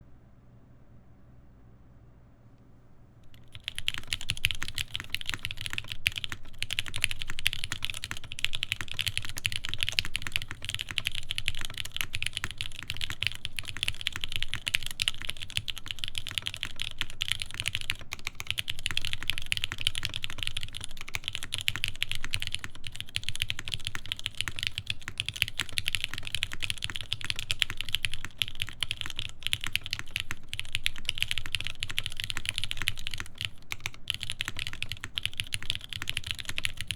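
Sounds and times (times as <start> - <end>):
fast mechanical keyboard typing: 3.3 - 36.9.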